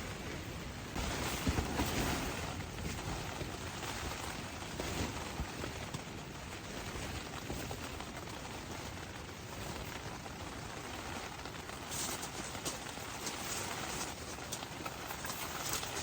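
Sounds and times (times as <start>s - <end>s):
small clicks and rattles: 2.8s - 16.0s.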